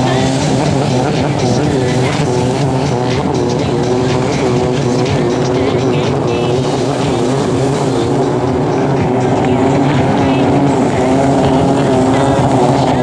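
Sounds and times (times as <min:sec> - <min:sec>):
jet ski engines revving: 0:00.0 - 0:13.0.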